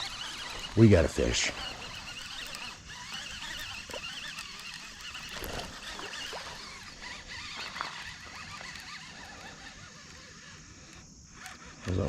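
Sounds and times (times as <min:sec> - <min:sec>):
birds calling and warbling: 0:00.0 - 0:10.8.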